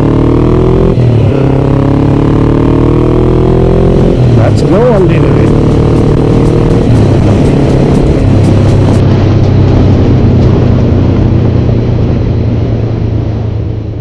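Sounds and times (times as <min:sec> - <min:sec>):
motorcycle engine running: 0:00.0 - 0:14.0
road noise: 0:00.0 - 0:14.0.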